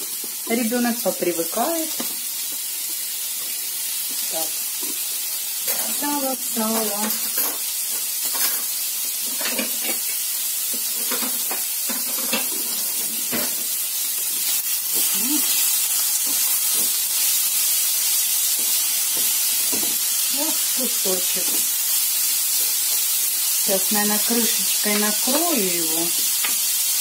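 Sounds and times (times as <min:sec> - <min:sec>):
pieces stirred in pan: 0:00.0 - 0:27.0
pork fat sizzling in a frying pan: 0:00.0 - 0:27.0.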